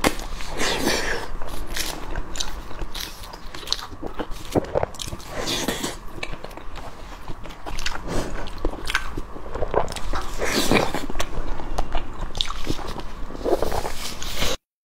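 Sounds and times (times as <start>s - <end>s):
close chewing and biting: 0.0s - 14.6s.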